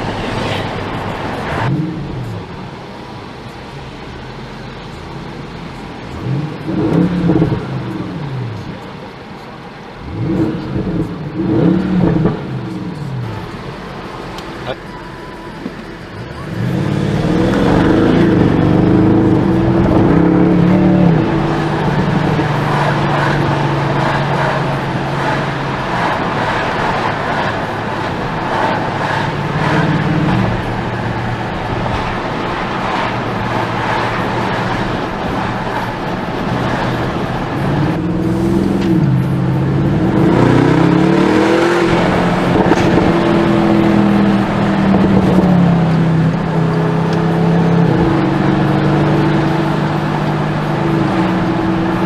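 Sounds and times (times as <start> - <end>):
car engine accelerating through gears: 0.0 - 9.0, 9.9 - 52.0.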